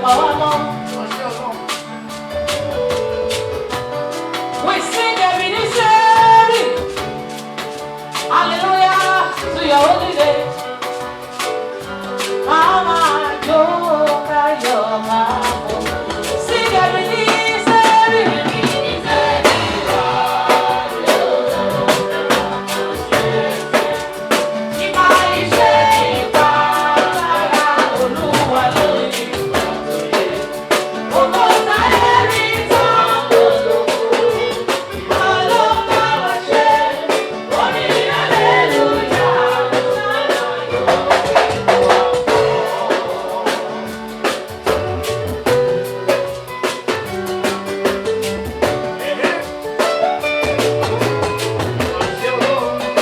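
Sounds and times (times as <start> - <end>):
gospel band playing: 0.0 - 53.0
person singing: 0.0 - 53.0.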